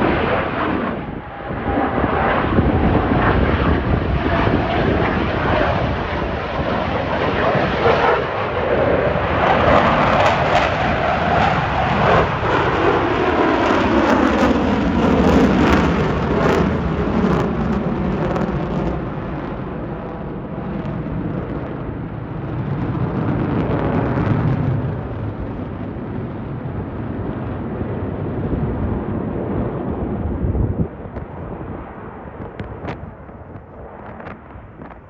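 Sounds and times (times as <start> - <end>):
jets flying past roaring: 0.0 - 35.0.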